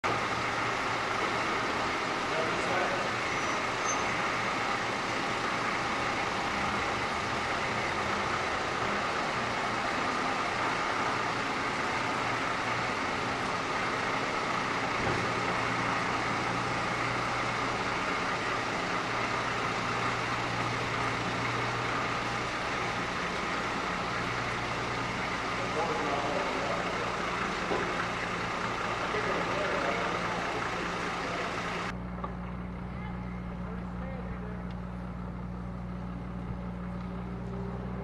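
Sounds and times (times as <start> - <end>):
faint engine whine: 0.0 - 38.0.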